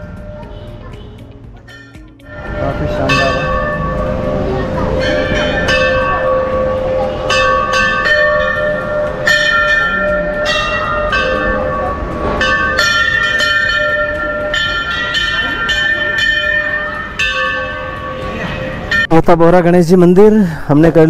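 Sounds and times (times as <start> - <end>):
temple bells ringing: 0.0 - 19.6.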